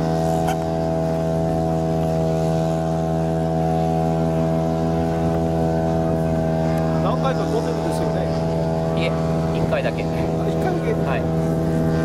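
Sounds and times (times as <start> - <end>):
model aircraft engine idling: 0.0 - 12.0.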